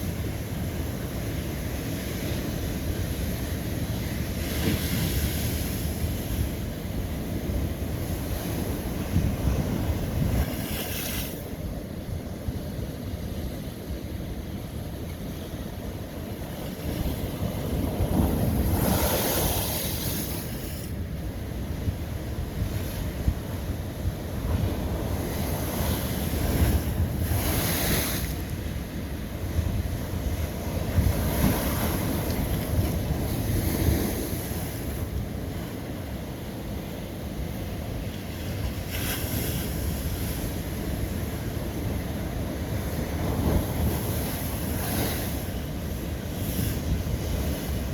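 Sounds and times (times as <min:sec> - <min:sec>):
ocean waves crashing on rocks: 0:00.0 - 0:47.9.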